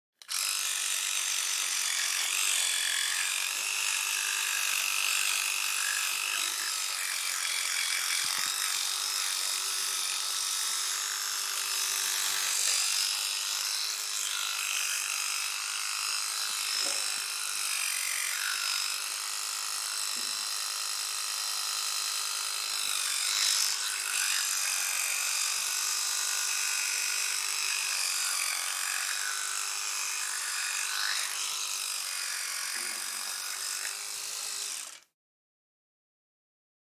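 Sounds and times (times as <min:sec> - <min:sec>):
electric toothbrush humming: 0:00.2 - 0:35.1.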